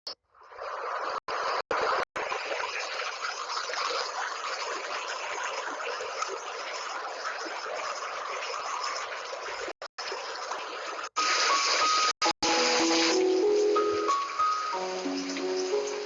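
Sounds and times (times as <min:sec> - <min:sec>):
flowing water rushing: 0:00.5 - 0:16.0.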